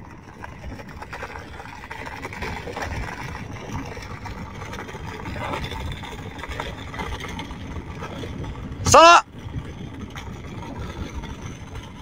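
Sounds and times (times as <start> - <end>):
wheels rolling on asphalt: 0.0 - 12.0
wind on microphone: 0.0 - 12.0.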